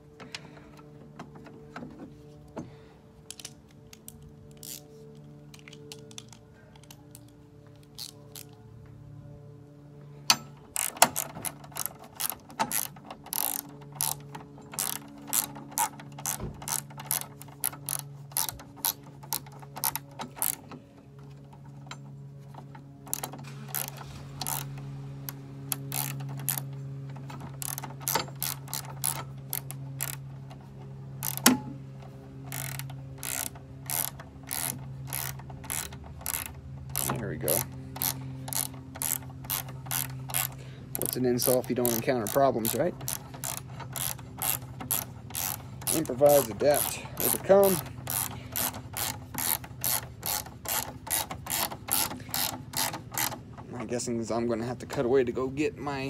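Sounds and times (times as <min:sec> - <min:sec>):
steady low hum: 0:00.0 - 0:56.0
ratchet wrench clicking: 0:03.3 - 0:08.6, 0:10.3 - 0:31.8, 0:32.4 - 0:53.6.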